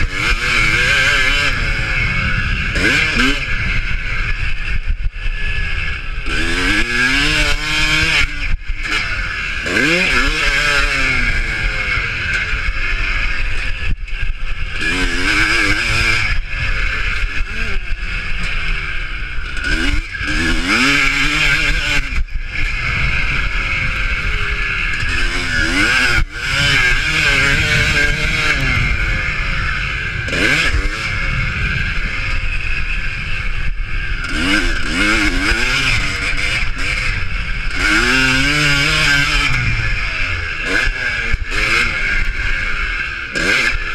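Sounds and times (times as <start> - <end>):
motocross engines racing: 0.0 - 43.9.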